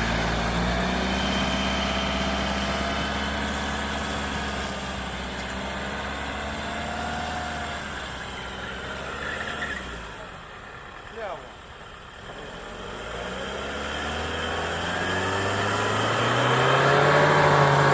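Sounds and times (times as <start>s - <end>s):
vehicle engine running at low revs: 0.0s - 17.9s.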